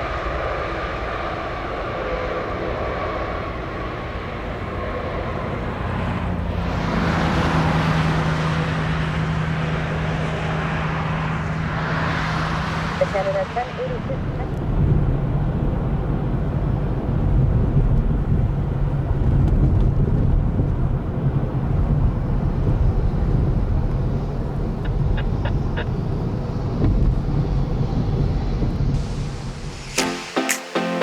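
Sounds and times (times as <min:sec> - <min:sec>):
jet engine low rumble: 0:00.0 - 0:30.0.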